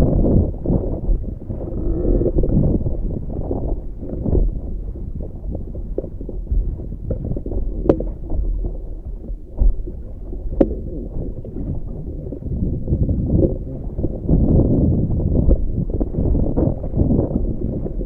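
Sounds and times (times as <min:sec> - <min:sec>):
water splashing along hull: 0:00.0 - 0:18.0
wind buffeting microphone: 0:00.0 - 0:18.0.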